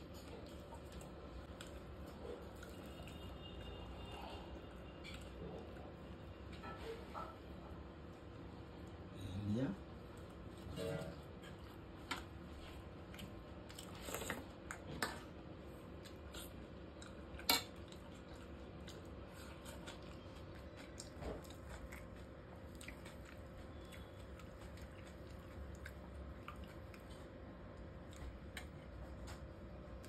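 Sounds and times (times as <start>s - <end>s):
person chewing food: 0.0s - 6.3s, 10.0s - 30.0s.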